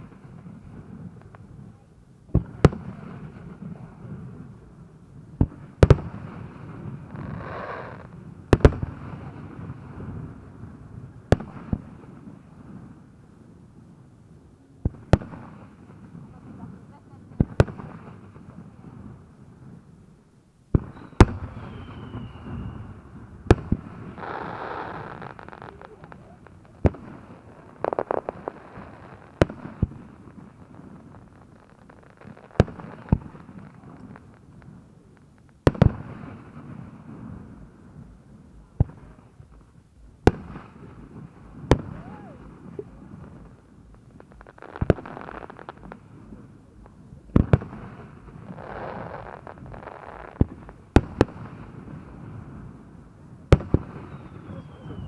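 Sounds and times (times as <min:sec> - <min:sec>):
fireworks bangs: 0:00.0 - 0:13.2, 0:14.8 - 0:19.9, 0:20.7 - 0:55.0
fireworks crackling: 0:00.0 - 0:55.0.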